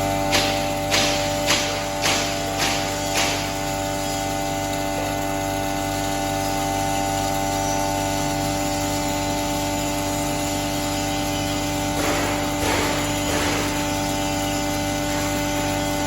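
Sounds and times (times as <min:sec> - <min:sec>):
grinder machine hum: 0:00.0 - 0:16.0.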